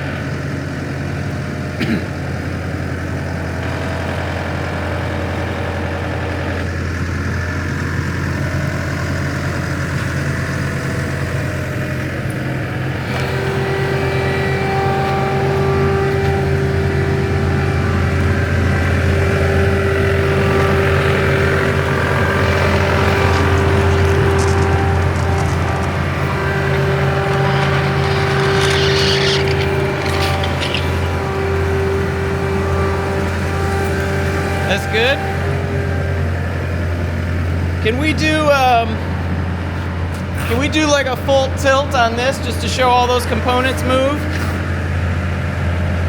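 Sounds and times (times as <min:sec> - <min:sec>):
high whine: 0:00.0 - 0:46.0
skid steer diesel engine running: 0:00.0 - 0:46.0.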